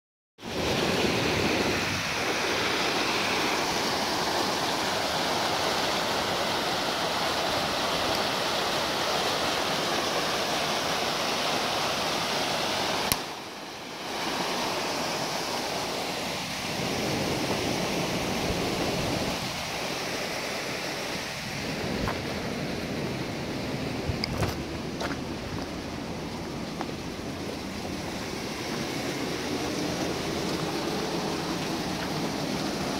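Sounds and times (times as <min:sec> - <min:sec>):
waterfall rushing water: 0:00.4 - 0:32.9.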